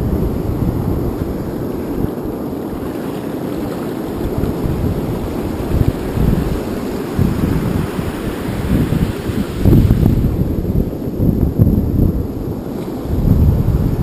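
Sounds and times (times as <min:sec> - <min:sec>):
breaking surf: 0:00.0 - 0:11.7
wind buffeting microphone: 0:00.0 - 0:14.0.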